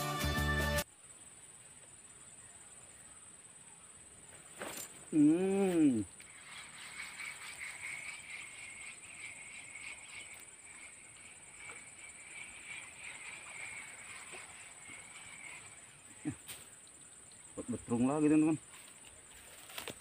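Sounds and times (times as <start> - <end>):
high steady insect buzz: 0.0 - 20.0
insects chirring: 0.8 - 20.0.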